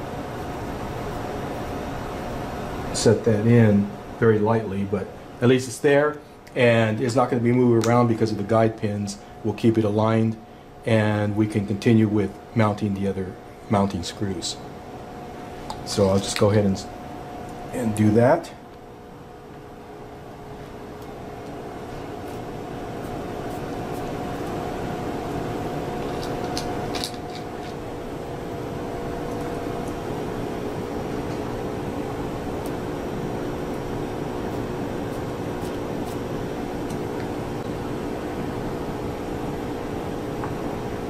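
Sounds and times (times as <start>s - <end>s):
steady machine hum: 0.0s - 41.0s.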